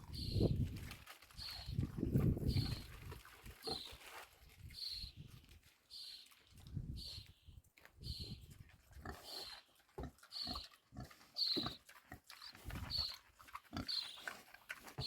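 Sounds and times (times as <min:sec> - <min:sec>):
pig eating and smacking lips: 0:00.0 - 0:15.0.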